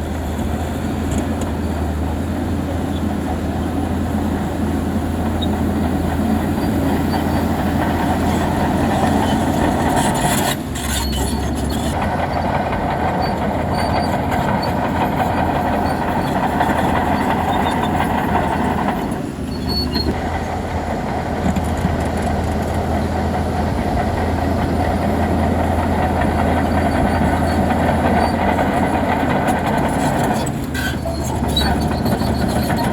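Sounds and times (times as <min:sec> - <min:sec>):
bulldozer diesel engine droning: 0:00.0 - 0:32.9
machinery clatter: 0:00.0 - 0:32.9.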